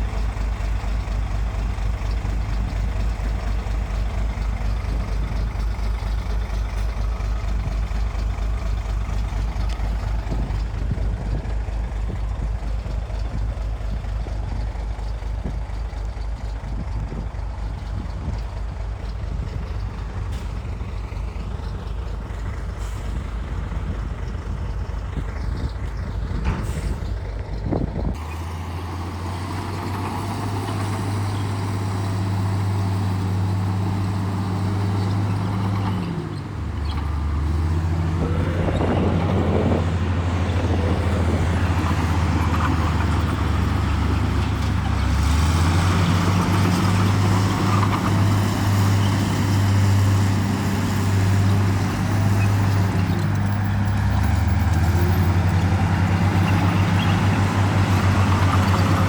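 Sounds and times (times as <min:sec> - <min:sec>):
diesel engine rumble: 0:00.0 - 0:59.0
steady engine hum: 0:00.0 - 0:59.0.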